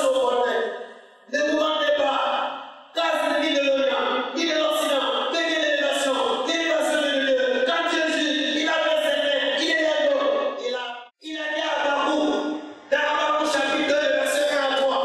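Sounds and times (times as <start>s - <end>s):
man preaching into a microphone: 0.0s - 15.0s.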